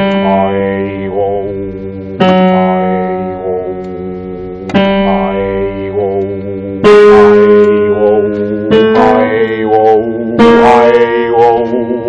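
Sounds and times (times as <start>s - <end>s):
man singing a held vowel: 0.0s - 4.0s, 4.7s - 12.0s
digital piano chords: 0.0s - 12.0s.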